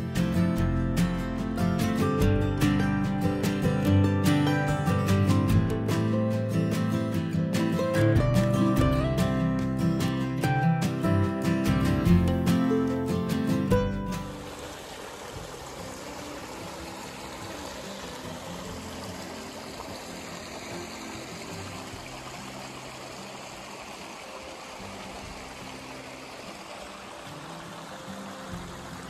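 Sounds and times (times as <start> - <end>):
stream trickling over rocks: 0.0 - 29.0.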